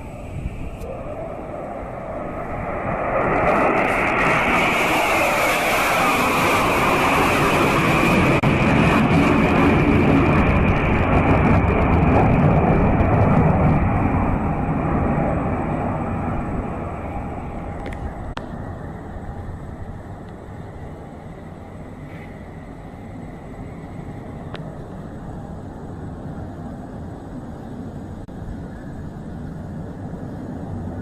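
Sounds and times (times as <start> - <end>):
fighter jets roaring overhead: 0.0 - 31.0.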